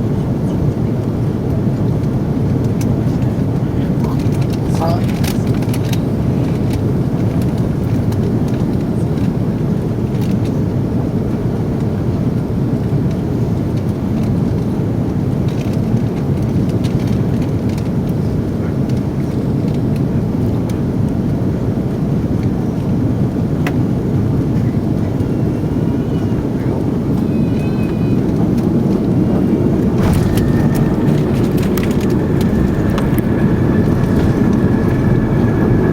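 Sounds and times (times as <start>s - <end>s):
airliner cabin rumble: 0.0s - 35.9s.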